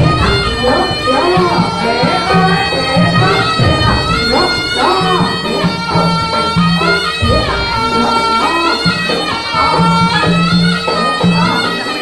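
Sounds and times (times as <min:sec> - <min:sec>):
held drone tones: 0:00.0 - 0:12.0
reedy wind instrument melody: 0:00.0 - 0:12.0.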